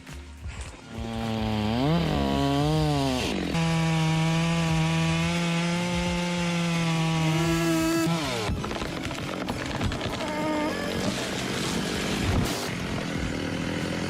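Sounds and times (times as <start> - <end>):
chainsaw cutting wood: 0.4 - 14.0.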